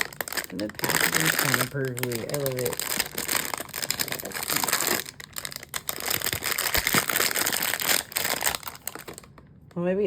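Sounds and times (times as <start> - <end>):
packaging crinkling and rustling: 0.0 - 9.5.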